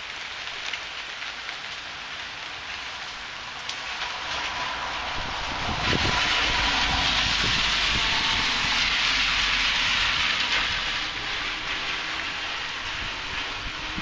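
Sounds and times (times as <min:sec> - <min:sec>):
heavy rain rushing: 0:00.0 - 0:14.0.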